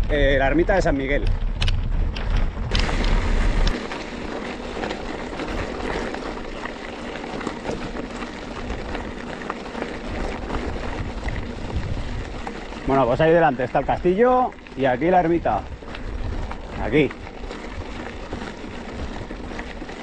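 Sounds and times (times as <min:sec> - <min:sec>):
bike tyres rolling on gravel: 0:00.0 - 0:20.0
wind noise on microphone: 0:00.0 - 0:20.0.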